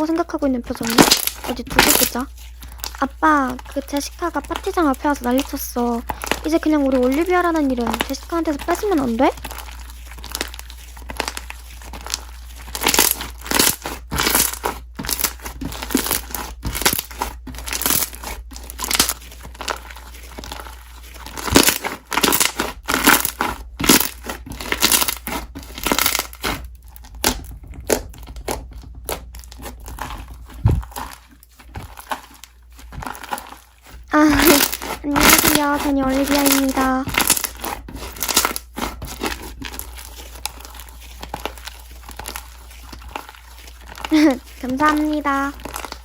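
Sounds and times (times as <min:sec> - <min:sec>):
slime crackling and squelching: 0:00.0 - 0:46.0.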